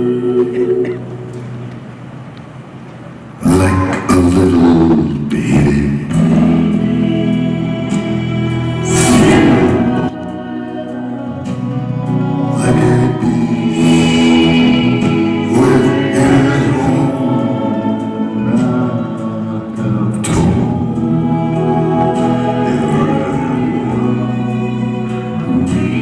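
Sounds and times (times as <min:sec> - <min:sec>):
choir-like backing vocals: 0:00.0 - 0:26.0
sustained keyboard chords: 0:00.0 - 0:26.0
live band playing slow song: 0:03.9 - 0:26.0.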